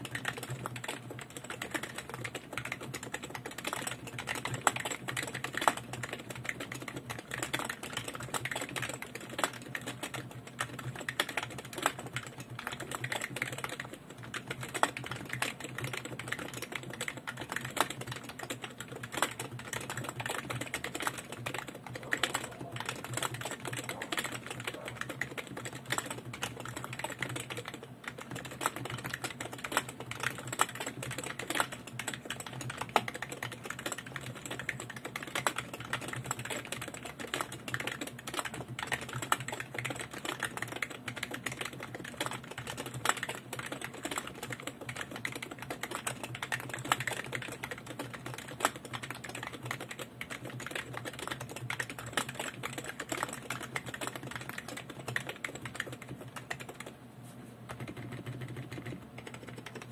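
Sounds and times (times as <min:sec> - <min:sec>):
fast keyboard typing: 0:00.0 - 0:59.9.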